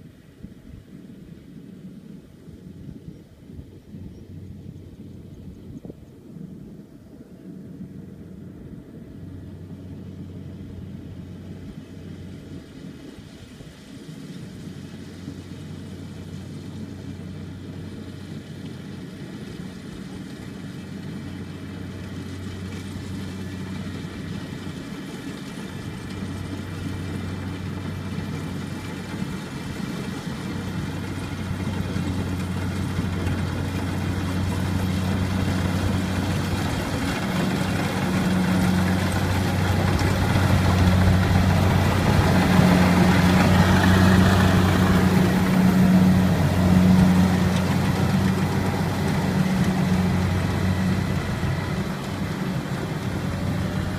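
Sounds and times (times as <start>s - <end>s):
combine harvester engine humming: 3.8s - 53.9s.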